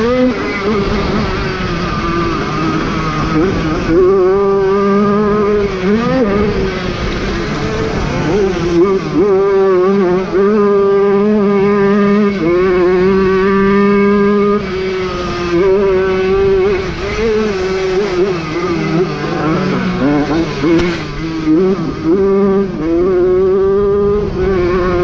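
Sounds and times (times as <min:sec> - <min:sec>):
two-stroke moped engine revving: 0:00.0 - 0:25.0.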